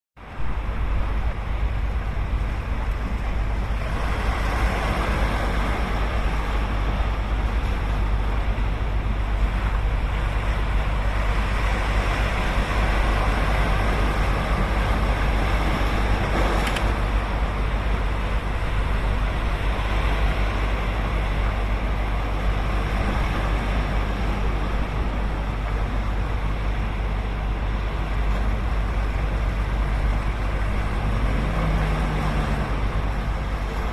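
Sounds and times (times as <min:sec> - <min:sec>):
ocean surf breaking on beach: 0:00.2 - 0:33.9
steady low rumble: 0:00.2 - 0:33.9.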